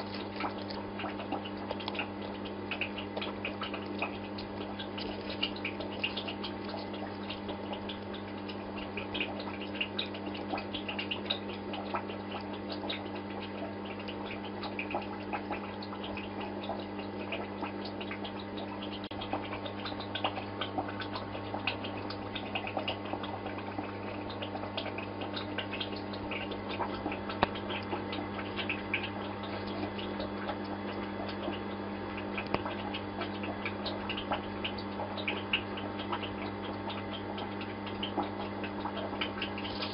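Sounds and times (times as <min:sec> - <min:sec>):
aquarium equipment humming: 0:00.0 - 0:39.9
bubbling water crackles: 0:00.0 - 0:39.9.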